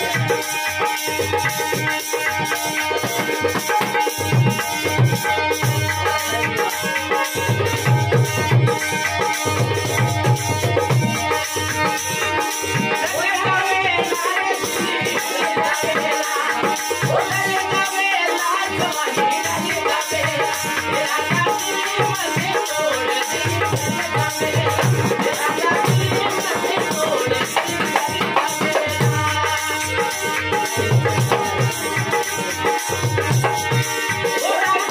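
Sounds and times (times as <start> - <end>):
harmonium chords: 0.0 - 34.9
man singing: 0.0 - 34.9.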